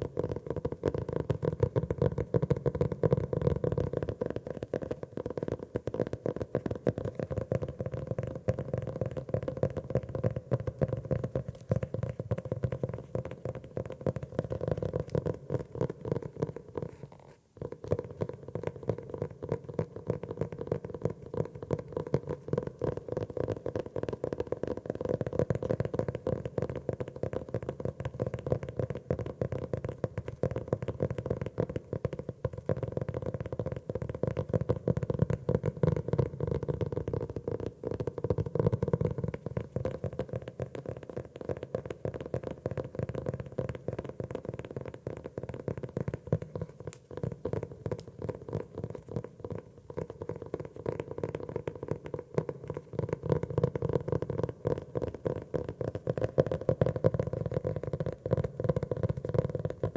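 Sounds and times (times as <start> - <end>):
rapid tapping on notebook: 0.0 - 59.9.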